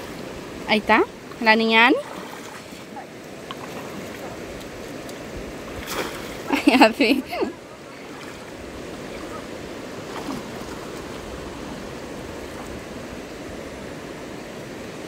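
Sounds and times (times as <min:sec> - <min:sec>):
river current flowing around stones: 0:00.0 - 0:15.0.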